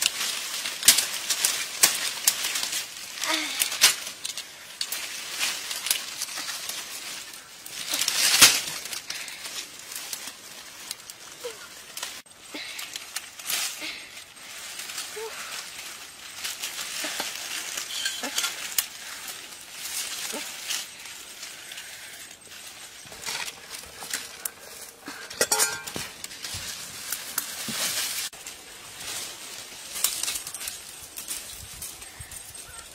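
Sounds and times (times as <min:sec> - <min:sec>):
dry leaves and twigs crackling: 0:00.0 - 0:32.9.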